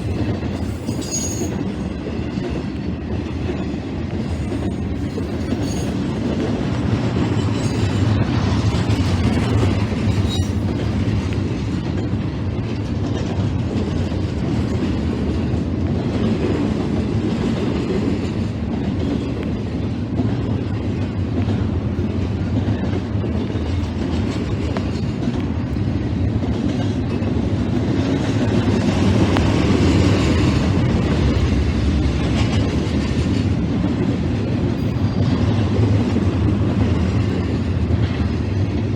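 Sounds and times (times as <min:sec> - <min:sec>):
freight train cars rolling: 0:00.0 - 0:38.9.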